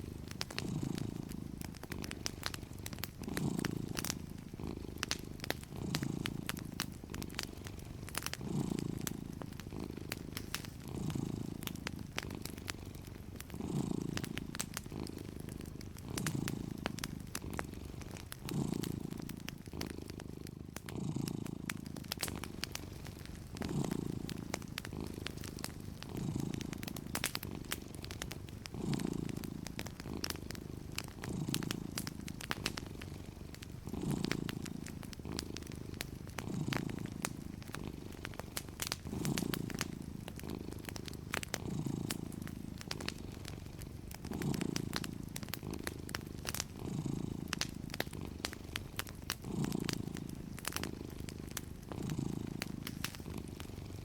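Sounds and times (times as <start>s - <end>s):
cat purring: 0.0s - 54.0s
wood fire crackling: 0.0s - 54.0s.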